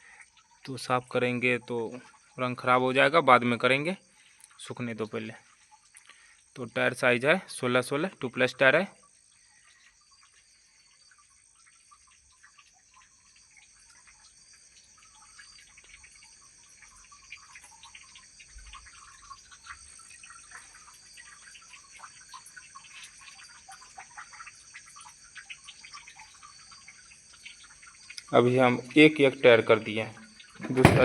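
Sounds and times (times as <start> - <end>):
crickets shrilling: 0.0 - 31.0
frogs croaking: 0.0 - 31.0.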